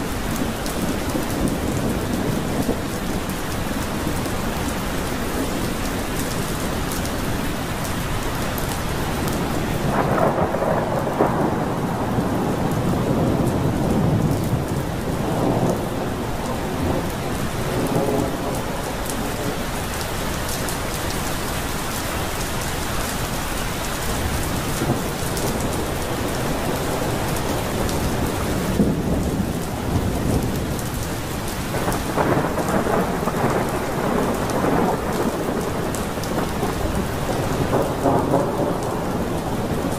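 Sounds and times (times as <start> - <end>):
rolling thunder: 0.0 - 7.6, 8.6 - 21.5, 23.5 - 39.9
pouring rain: 0.0 - 39.9.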